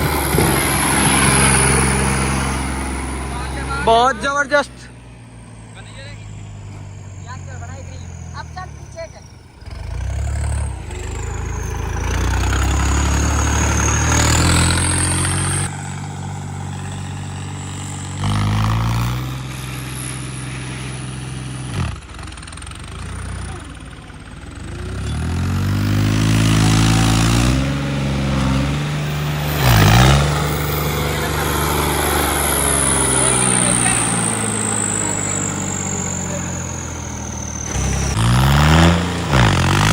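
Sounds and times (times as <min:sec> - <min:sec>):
diesel tractor engines revving: 0:00.0 - 0:39.9.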